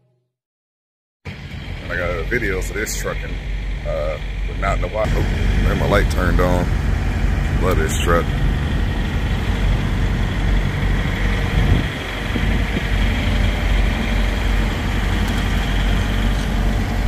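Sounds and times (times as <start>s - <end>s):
diesel engine idling: 1.3s - 17.0s
engine knock: 3.3s - 17.0s.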